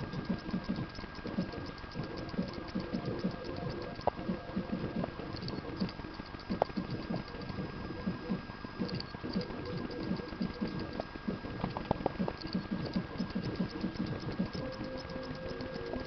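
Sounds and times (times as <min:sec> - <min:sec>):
hard drive head clicking: 0:00.1 - 0:16.0.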